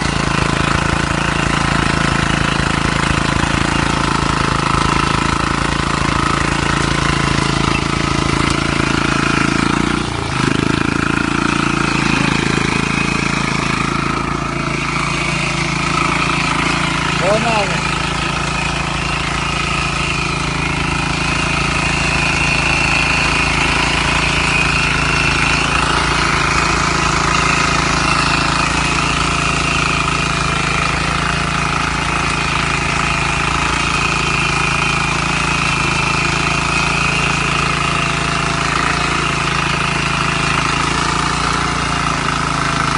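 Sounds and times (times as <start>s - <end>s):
rotary tiller engine running: 0.0s - 42.9s.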